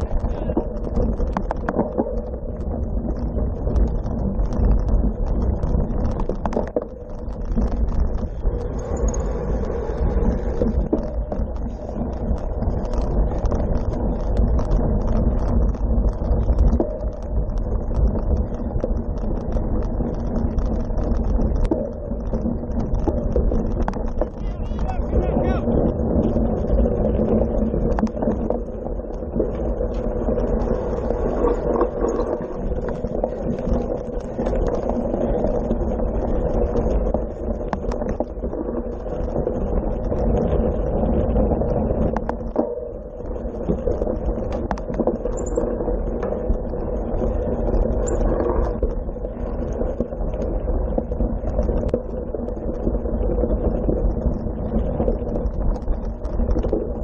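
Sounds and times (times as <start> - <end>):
bike rumbling over gravel: 0.0 - 57.0.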